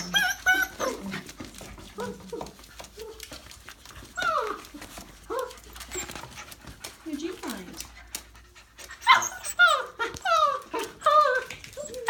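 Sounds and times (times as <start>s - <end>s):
puppies whimpering: 0.0s - 12.0s.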